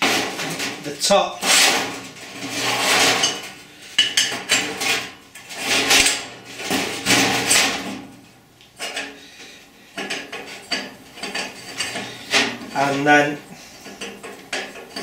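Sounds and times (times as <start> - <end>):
metal tubes clanking and scraping: 0.0 - 8.0, 8.8 - 15.0.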